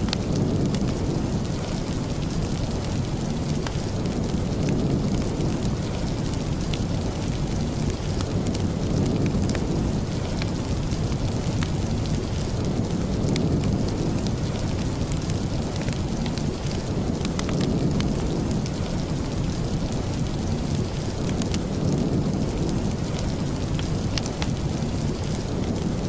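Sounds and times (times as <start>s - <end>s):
deep continuous rumble: 0.0s - 26.0s
rain: 0.0s - 26.0s
wood fire crackling: 0.0s - 26.0s.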